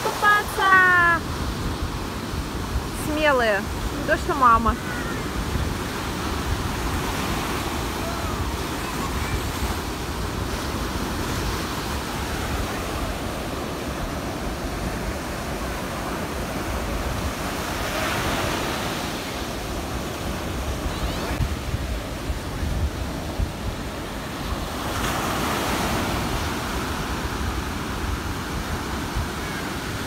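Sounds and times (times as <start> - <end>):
ocean waves breaking: 0.0 - 30.0
wind buffeting microphone: 0.7 - 30.0.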